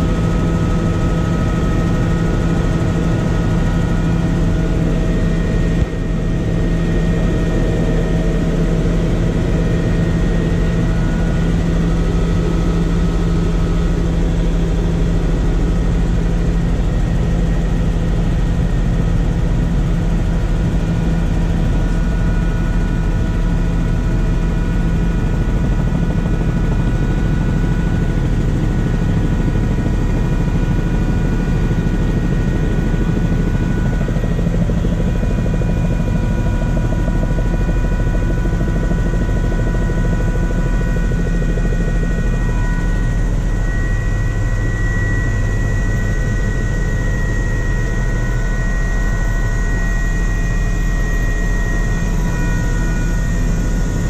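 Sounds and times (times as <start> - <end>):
helicopter rotor and engine noise: 0.0 - 54.0.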